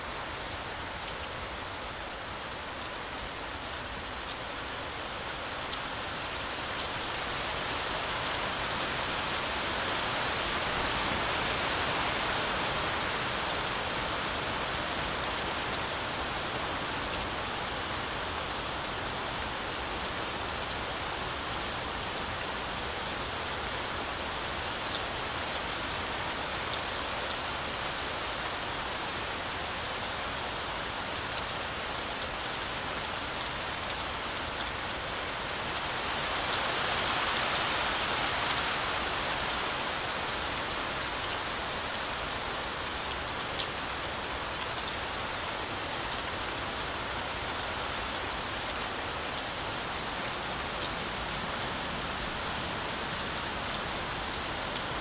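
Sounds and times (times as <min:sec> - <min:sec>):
heavy rain through forest canopy: 0:00.0 - 0:55.0.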